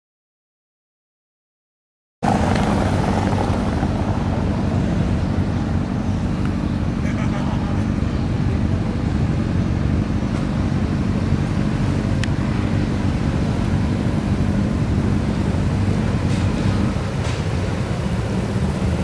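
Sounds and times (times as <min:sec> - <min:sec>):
motorcycle engines rumbling: 0:02.2 - 0:19.0.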